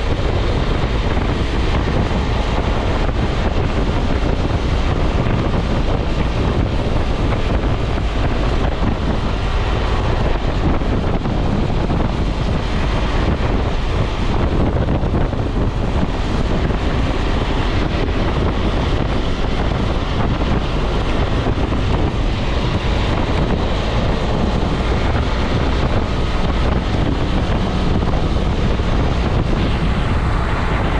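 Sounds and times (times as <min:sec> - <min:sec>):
road noise: 0:00.0 - 0:30.9
wind buffeting microphone: 0:00.0 - 0:30.9.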